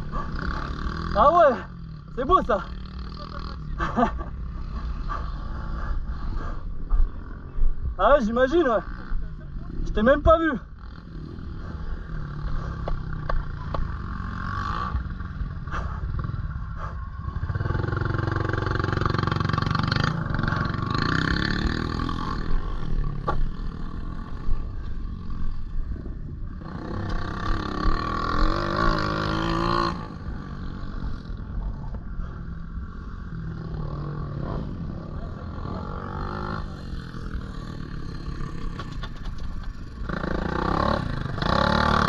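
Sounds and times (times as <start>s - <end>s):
motorbike engine revving: 0.0s - 7.9s, 8.6s - 42.0s.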